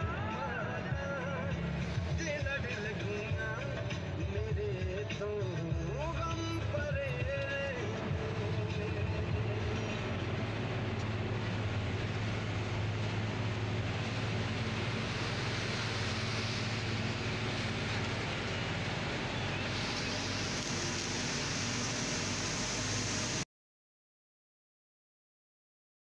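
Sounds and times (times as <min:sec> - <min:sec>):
truck engine running: 0:00.0 - 0:23.4
road and tyre noise: 0:00.0 - 0:23.5.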